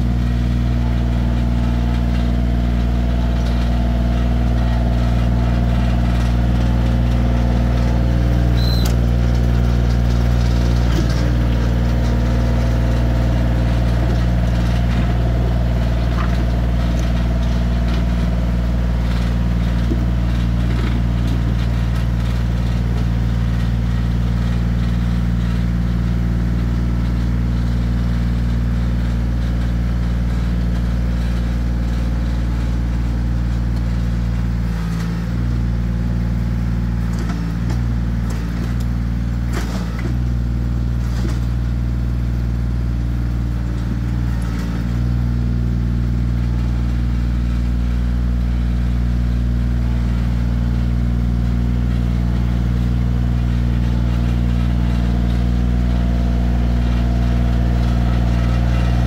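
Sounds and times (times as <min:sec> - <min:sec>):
diesel tractor engine under load: 0:00.0 - 0:59.0.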